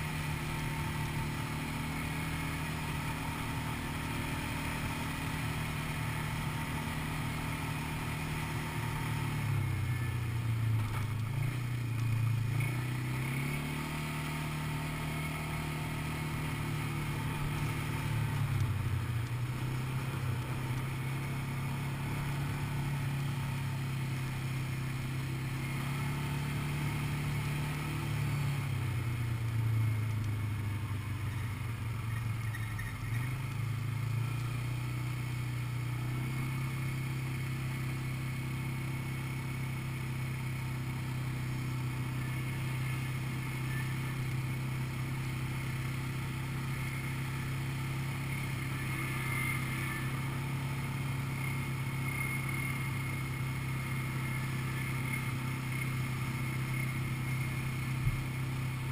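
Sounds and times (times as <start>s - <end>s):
quad bike engine running: 0.0s - 58.9s.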